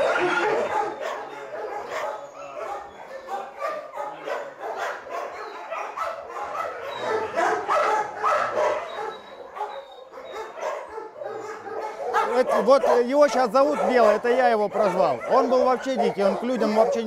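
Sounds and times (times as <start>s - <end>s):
dogs barking and yelping: 0.0s - 17.0s.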